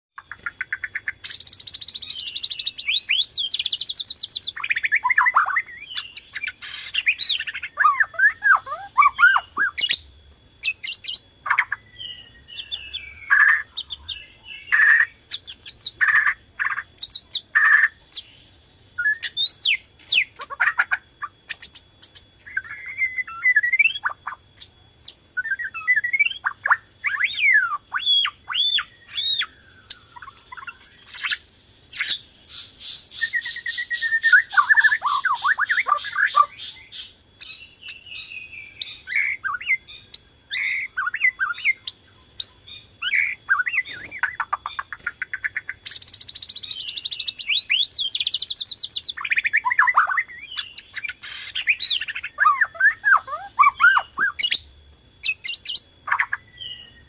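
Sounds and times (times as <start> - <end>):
bird song whistles and trills: 0.2 - 57.0.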